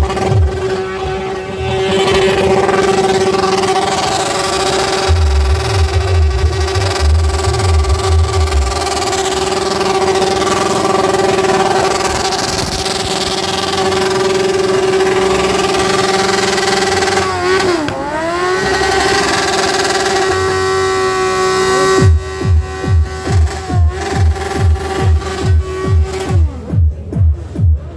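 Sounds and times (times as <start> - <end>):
motorcycle engine at high revs: 0.0 - 27.9.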